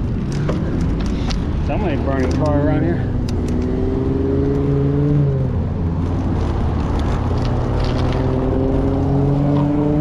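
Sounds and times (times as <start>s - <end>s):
tyre and road noise: 0.0s - 10.0s
vehicle engine drone: 0.0s - 10.0s.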